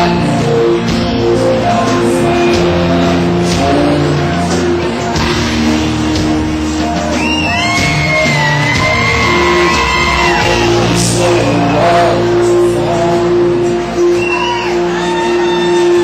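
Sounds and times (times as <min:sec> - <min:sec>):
crowd shouting and whooping: 0:00.0 - 0:16.0
live country-rock band playing: 0:00.0 - 0:16.0.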